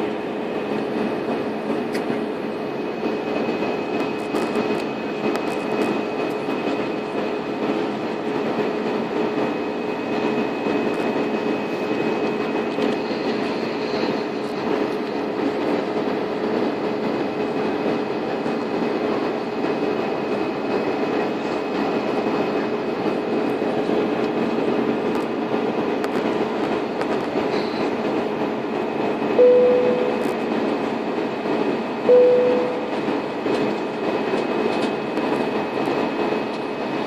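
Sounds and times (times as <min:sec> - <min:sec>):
airliner cabin engine noise: 0:00.0 - 0:37.0
constant hum: 0:00.0 - 0:37.0.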